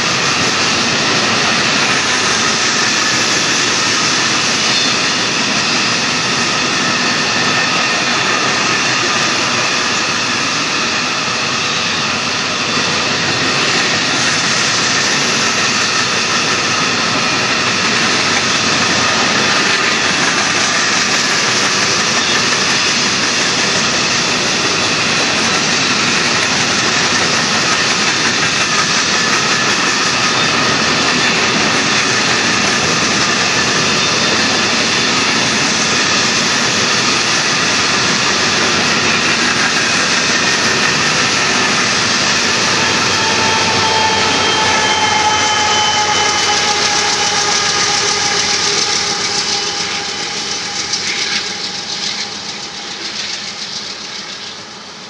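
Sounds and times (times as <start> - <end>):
freight train wheels on rail: 0.0 - 55.0.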